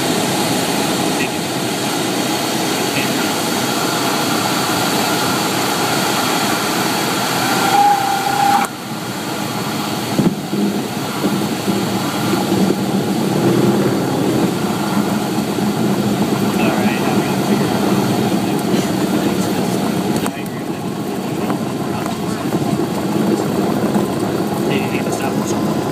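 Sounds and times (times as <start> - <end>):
airplane engine and propeller droning: 0.0 - 25.9
wind noise: 0.0 - 25.9.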